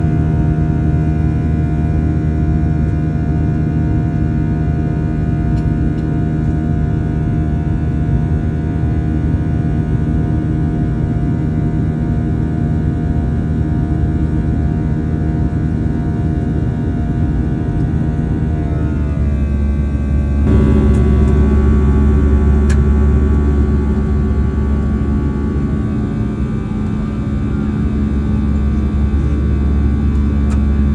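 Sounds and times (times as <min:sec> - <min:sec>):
airliner engines droning: 0:00.0 - 0:30.9.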